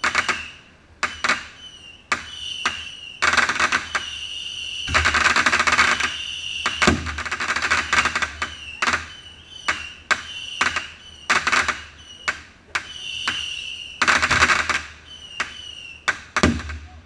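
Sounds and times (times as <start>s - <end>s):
high firework whistles: 0.0s - 16.8s
firework bangs: 0.0s - 17.0s
rapid firework crackling: 0.0s - 17.0s.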